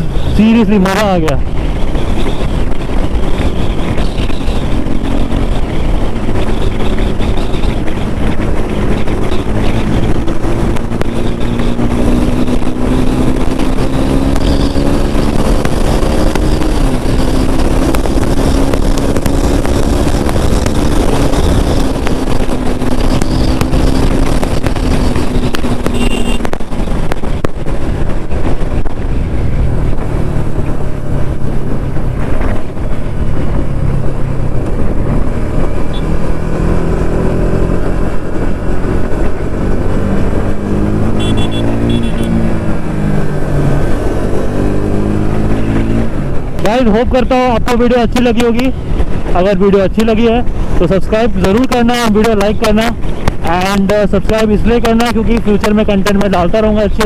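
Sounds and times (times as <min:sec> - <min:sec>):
motorcycle engine at speed: 0:00.0 - 0:57.0
wind rush: 0:00.0 - 0:57.0.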